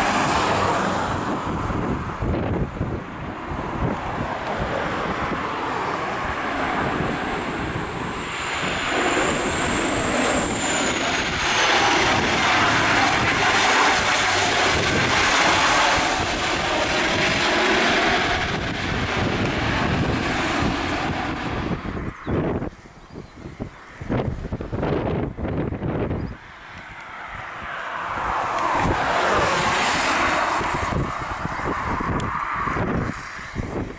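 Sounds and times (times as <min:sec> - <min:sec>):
airliner engines rushing: 0:00.0 - 0:33.9
high thin engine whine: 0:00.0 - 0:33.9.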